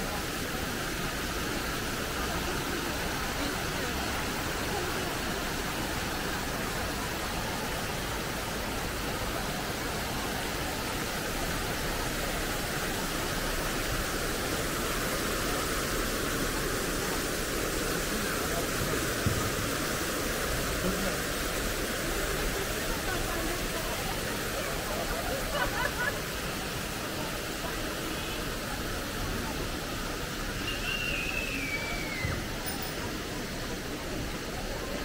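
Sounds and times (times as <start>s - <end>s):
fountain water splashing: 0.0s - 35.0s.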